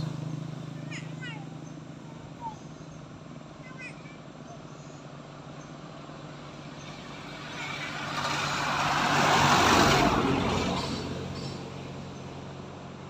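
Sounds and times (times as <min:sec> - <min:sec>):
road vehicle passing by: 0:00.0 - 0:13.0.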